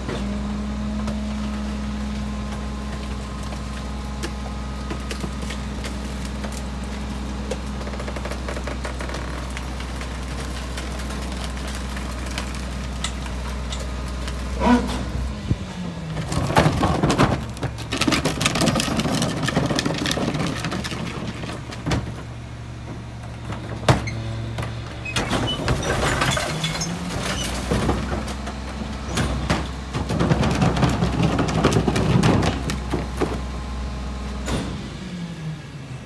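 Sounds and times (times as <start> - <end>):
garbage truck diesel engine: 0.0 - 36.0.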